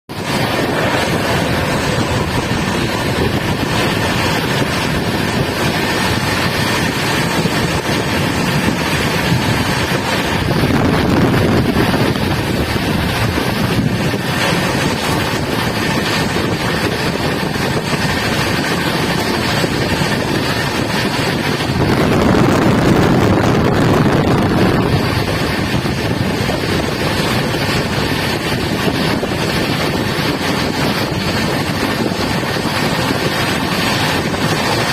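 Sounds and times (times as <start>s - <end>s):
train rushing at speed: 0.1s - 34.9s
wind buffeting microphone: 0.1s - 34.9s.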